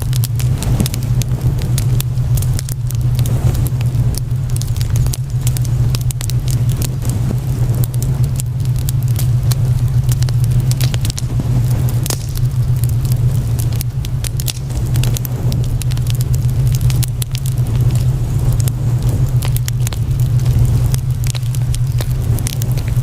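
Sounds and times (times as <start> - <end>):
fire crackling and popping: 0.0 - 23.0
steady low hum: 0.0 - 23.0.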